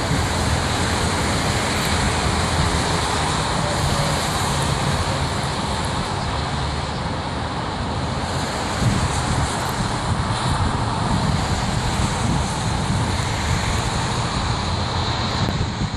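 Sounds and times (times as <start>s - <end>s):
freeway traffic passing: 0.0s - 15.9s.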